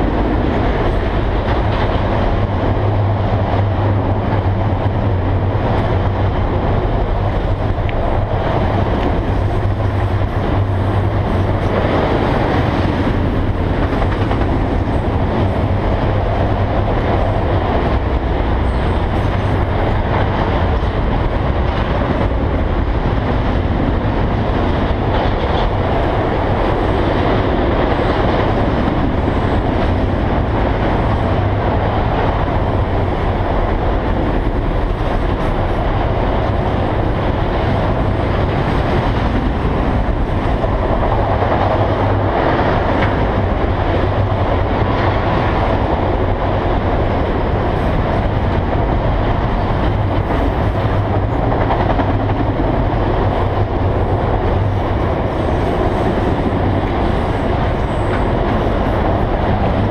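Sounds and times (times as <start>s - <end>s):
steel wheels on rails: 0.0s - 59.9s.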